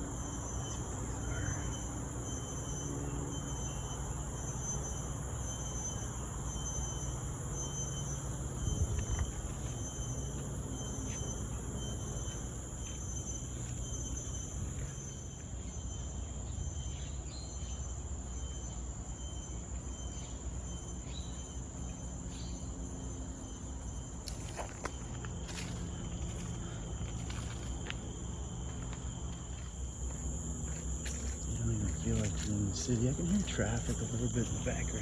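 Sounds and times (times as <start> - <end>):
insect chorus: 0.0 - 35.0.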